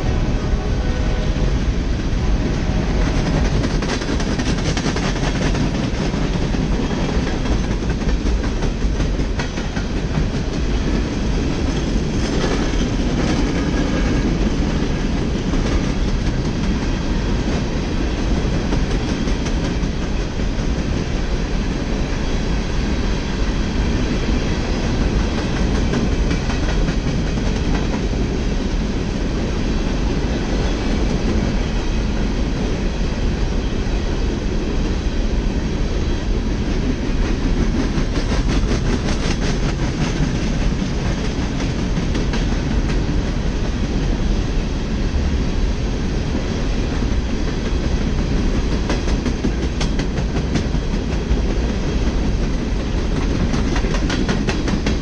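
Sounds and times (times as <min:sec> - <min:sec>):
train wheels clicking on rails: 0:00.0 - 0:55.0.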